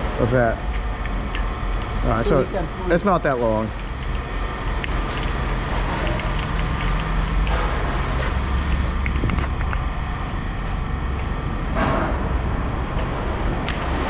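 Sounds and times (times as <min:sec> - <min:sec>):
engine running with low rumble: 0:00.0 - 0:14.0.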